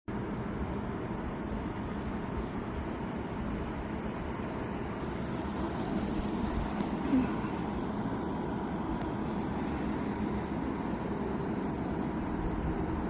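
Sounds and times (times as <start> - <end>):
electric boat motor rumbling: 0.1 - 13.0
water: 0.1 - 13.0
wind: 0.1 - 13.0.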